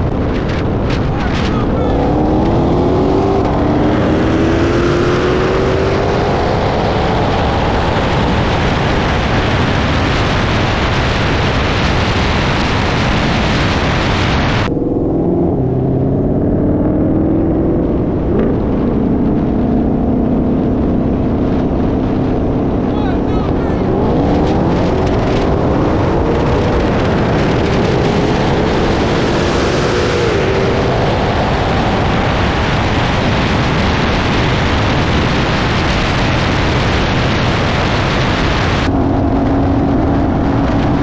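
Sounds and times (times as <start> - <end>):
car engines at full throttle: 0.0 - 41.0
wind and road roar: 0.0 - 41.0.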